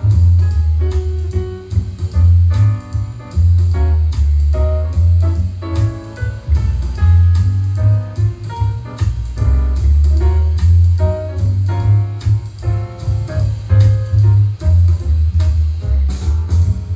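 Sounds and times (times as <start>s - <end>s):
drum kit: 0.0s - 16.9s
heavy bass line: 0.0s - 16.9s
piano notes: 0.0s - 16.9s.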